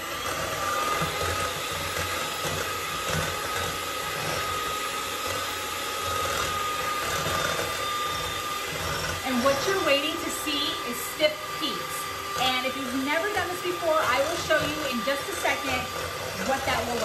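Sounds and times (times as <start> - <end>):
electric mixer whining: 0.0 - 17.0.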